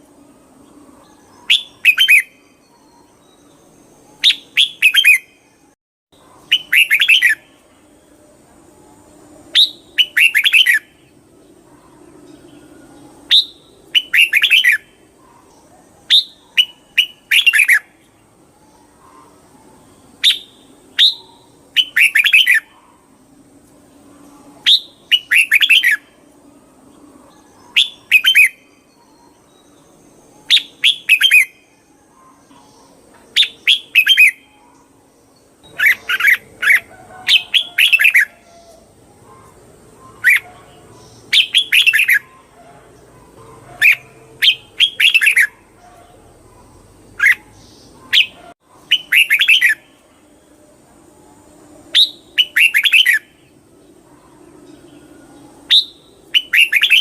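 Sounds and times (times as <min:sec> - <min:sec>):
bird singing chirpy phrases: 0:00.0 - 0:23.2, 0:23.9 - 0:57.0.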